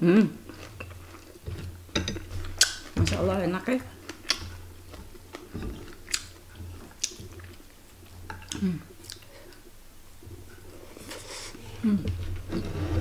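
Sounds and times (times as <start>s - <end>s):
chewing food: 0.3s - 12.6s.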